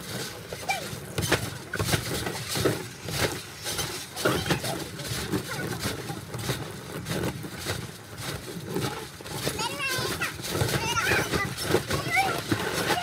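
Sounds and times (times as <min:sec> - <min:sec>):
bare feet thudding on wet trampoline: 0:00.0 - 0:13.0.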